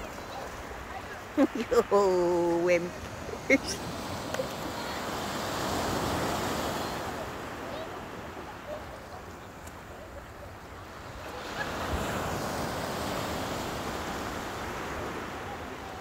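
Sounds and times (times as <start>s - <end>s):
small waves breaking on beach: 0.0s - 16.0s.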